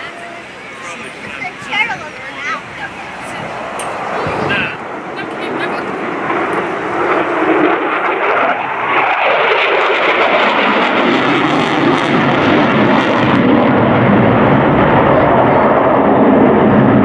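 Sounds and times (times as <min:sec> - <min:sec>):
jet engines in afterburner: 0:00.0 - 0:17.0.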